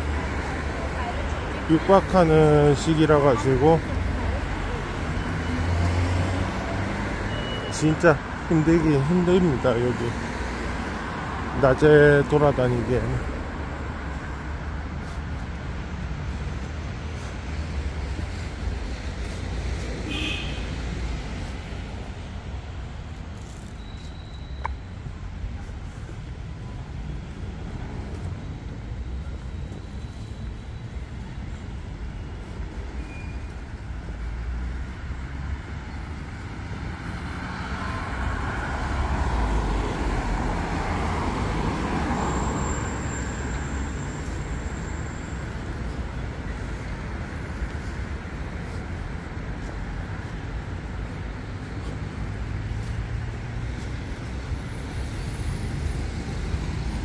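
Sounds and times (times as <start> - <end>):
passing vehicles: 0.0 - 57.0.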